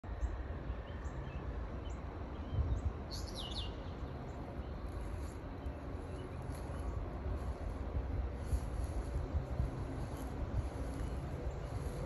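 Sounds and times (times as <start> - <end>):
birds chirping: 0.1 - 12.0
steady low rumble: 0.1 - 12.0.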